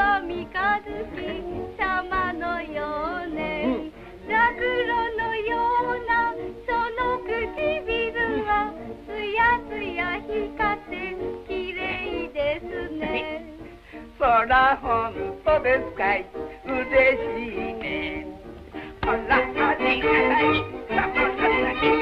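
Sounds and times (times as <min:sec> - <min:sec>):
woman singing: 0:00.0 - 0:13.6, 0:14.2 - 0:22.0.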